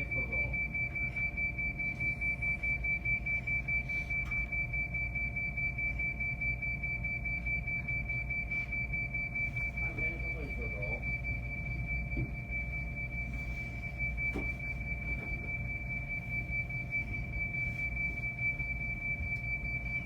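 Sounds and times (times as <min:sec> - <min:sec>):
high beep alarm repeating rapidly: 0:00.0 - 0:20.0.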